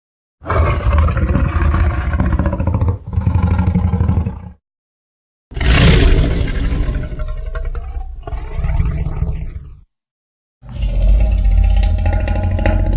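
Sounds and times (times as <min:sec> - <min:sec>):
dinosaur roar sound effect: 0:00.4 - 0:04.6, 0:05.6 - 0:09.8, 0:10.6 - 0:12.9.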